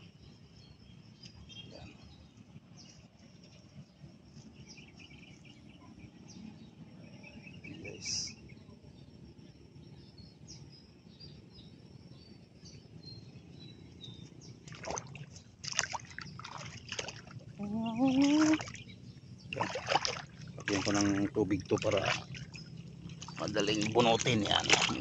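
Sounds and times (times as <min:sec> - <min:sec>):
low steady rumble: 0:00.0 - 0:25.0
small birds chirping: 0:00.0 - 0:25.0.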